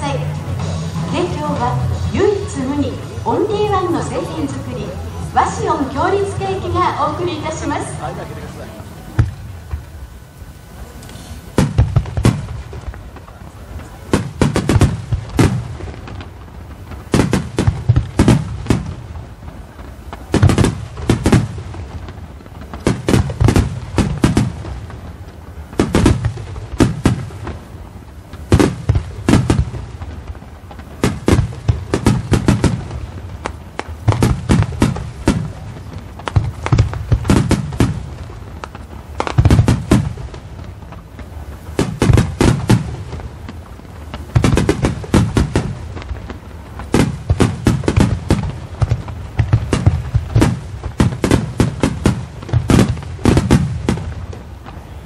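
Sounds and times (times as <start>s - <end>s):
fireworks bursting in sharp bangs: 0.0s - 55.0s
low rumble of fireworks: 0.0s - 55.0s.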